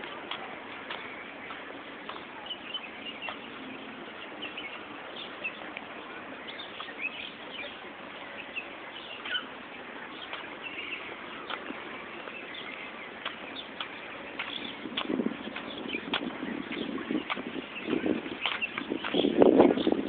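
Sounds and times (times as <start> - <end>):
small birds chirping: 0.0 - 20.0
steady background hiss: 0.0 - 20.0.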